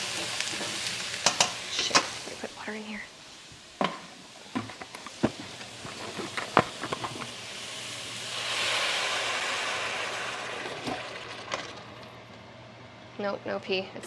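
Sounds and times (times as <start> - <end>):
water hissing and steaming: 0.0 - 12.3.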